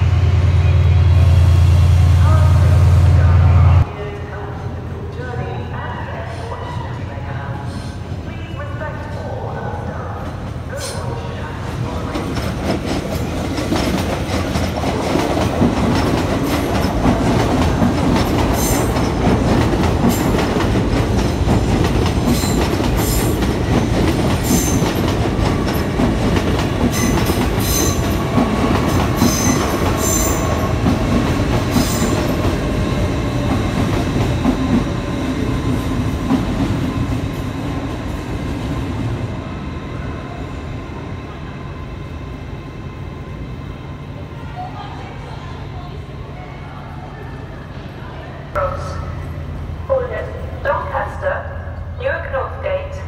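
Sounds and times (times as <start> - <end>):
train wheels rumbling on track: 0.0 - 5.4, 6.3 - 46.4.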